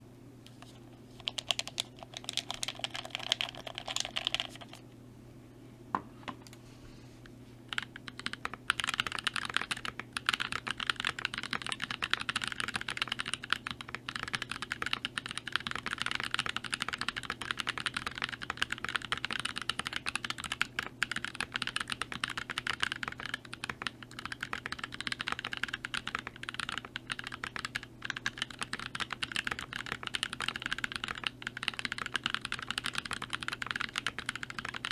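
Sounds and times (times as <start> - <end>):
fast typing on mechanical keyboard: 1.3 - 4.8, 7.7 - 34.9.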